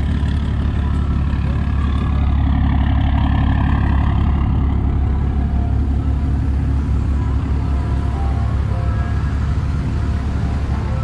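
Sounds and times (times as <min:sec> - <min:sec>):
diesel truck passing: 0:00.0 - 0:11.0.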